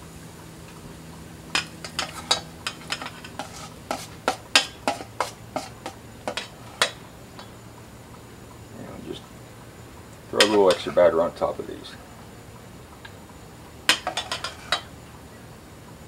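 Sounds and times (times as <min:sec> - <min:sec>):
sausage patties sizzling: 0:00.0 - 0:15.2.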